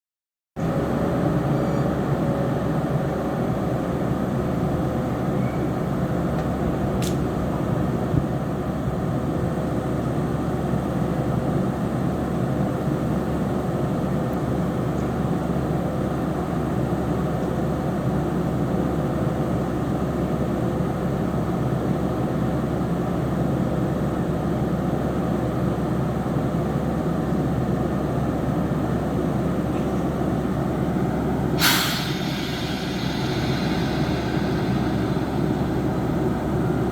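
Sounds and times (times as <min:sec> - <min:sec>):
locomotive cooling blowers droning: 0:00.6 - 0:36.9.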